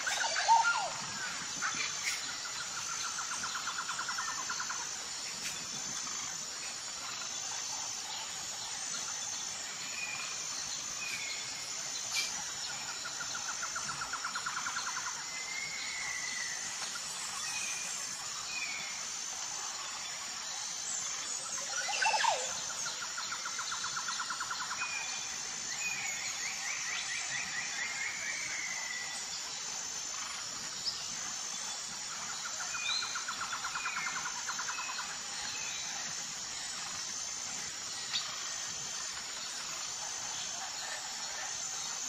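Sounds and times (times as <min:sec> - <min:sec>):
high-pitched insect buzz: 0:00.0 - 0:42.0.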